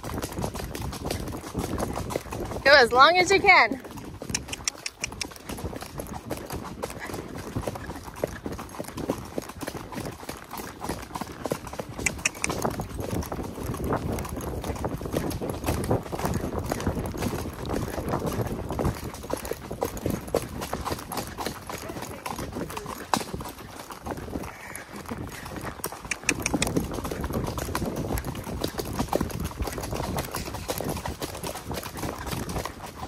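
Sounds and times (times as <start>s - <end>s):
horse hooves on trail: 0.0s - 33.0s.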